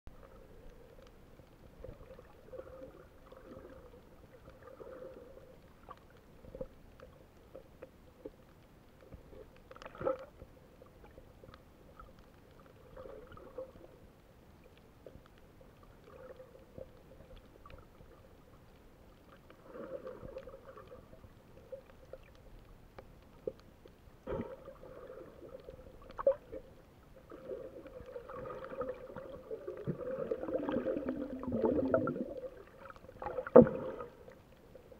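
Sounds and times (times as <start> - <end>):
water gurgling: 0.1 - 8.4, 9.0 - 14.0, 15.6 - 23.6, 24.2 - 34.9
underwater water movement: 0.1 - 34.9.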